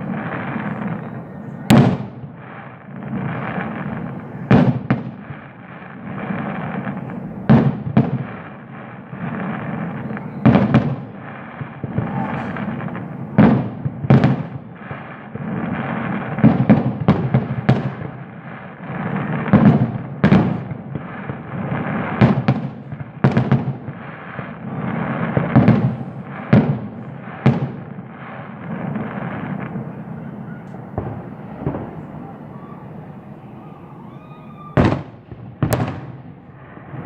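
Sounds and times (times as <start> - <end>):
fireworks bangs: 0.0 - 37.0
fireworks crackling rumble: 0.0 - 37.0.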